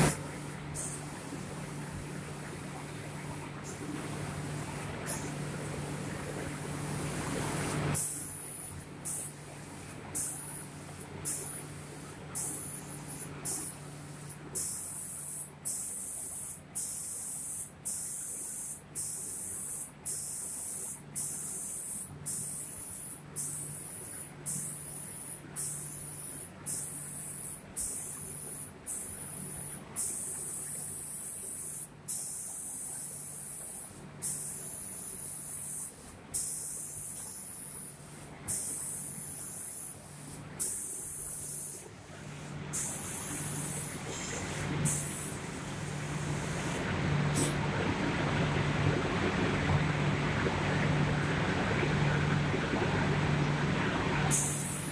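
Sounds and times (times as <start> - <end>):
spray guns hissing in bursts: 0.0 - 47.6, 54.3 - 54.9.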